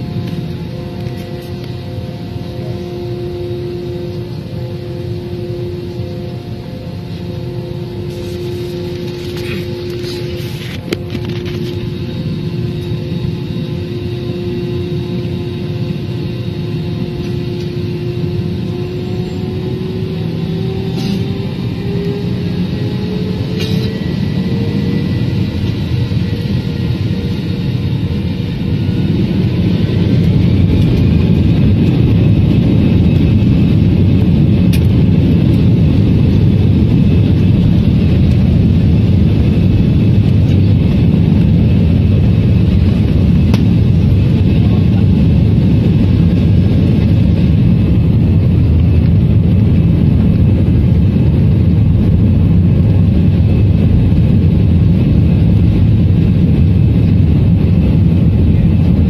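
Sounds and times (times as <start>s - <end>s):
faint high whine: 0.0s - 55.1s
jet engine rumble and rushing: 0.0s - 59.0s.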